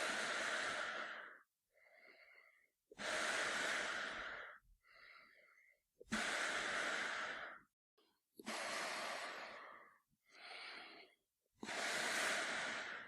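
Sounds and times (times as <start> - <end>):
man breathing through gas mask: 0.0 - 7.7, 8.4 - 13.0.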